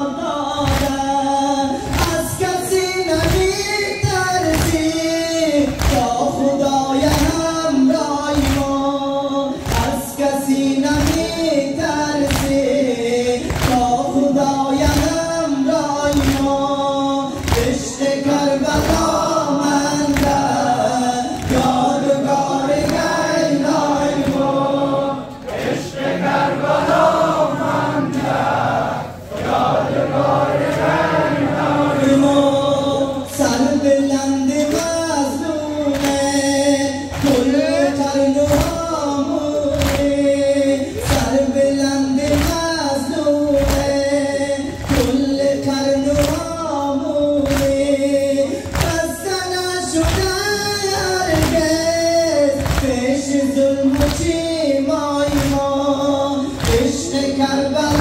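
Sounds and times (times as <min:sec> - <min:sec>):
men chanting together: 0:00.0 - 0:58.0.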